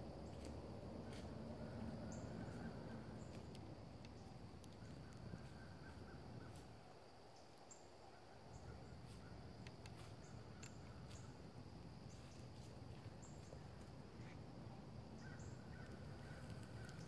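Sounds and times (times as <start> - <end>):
faint insect drone: 0.0 - 17.0
faint ticks and crackles: 0.1 - 17.0.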